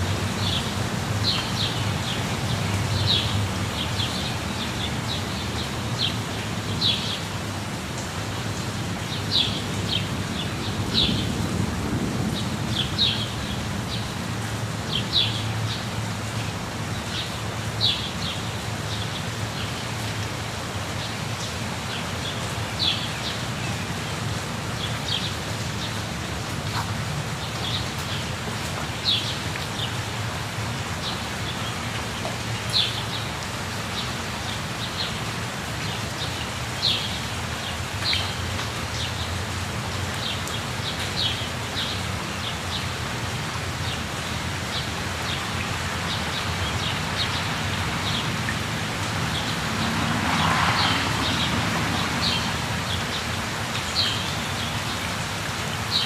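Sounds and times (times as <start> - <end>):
rushing falling water: 0.0 - 56.0.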